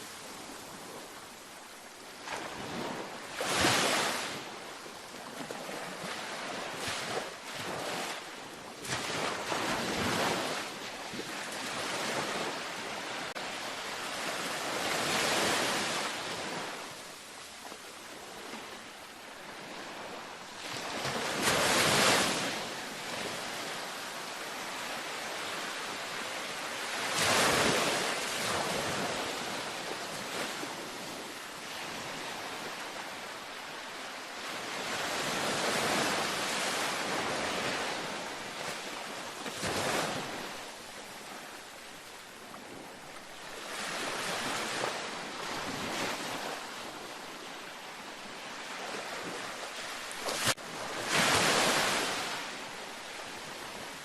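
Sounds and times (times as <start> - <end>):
ocean waves breaking: 0.0 - 4.6, 5.2 - 54.0.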